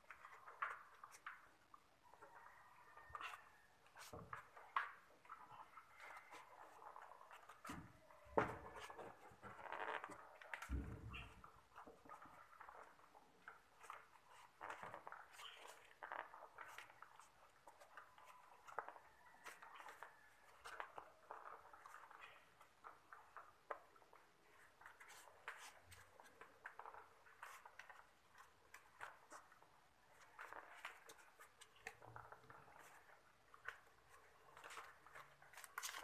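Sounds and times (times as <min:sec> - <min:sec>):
hands rustling pipes and wiring: 0:00.0 - 0:36.0.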